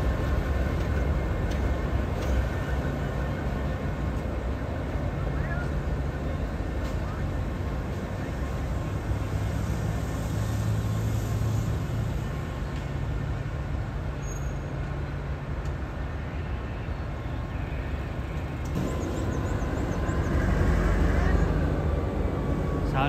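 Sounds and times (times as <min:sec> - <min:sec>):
locomotive engine humming: 0:00.0 - 0:23.0.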